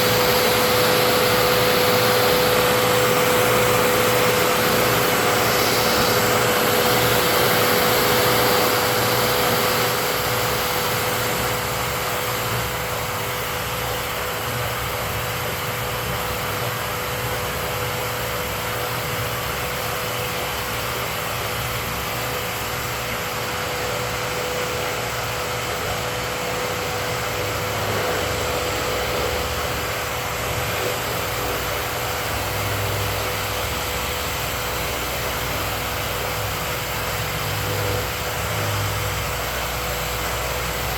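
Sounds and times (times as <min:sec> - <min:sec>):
vacuum motor whine: 0:00.0 - 0:40.9.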